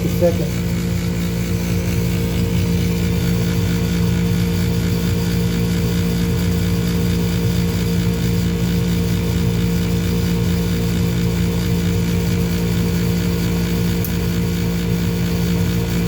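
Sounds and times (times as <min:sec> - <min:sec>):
furnace motor humming: 0:00.0 - 0:16.0.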